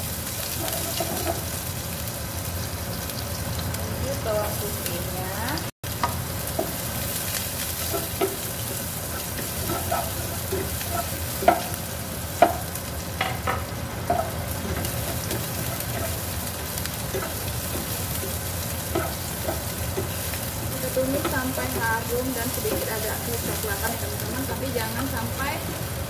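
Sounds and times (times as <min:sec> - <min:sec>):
shallots sizzling in oil: 0:00.0 - 0:26.0
spatula scraping and knocking pan: 0:00.5 - 0:01.6, 0:06.0 - 0:25.9.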